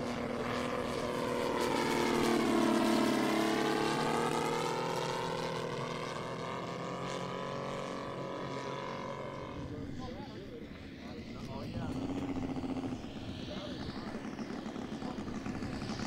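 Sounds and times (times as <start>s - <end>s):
model plane radial engine: 0.0s - 16.0s.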